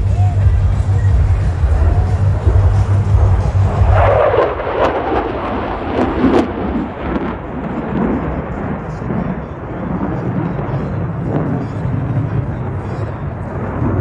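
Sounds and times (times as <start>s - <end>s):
jet flying past with crackle: 1.6s - 14.0s.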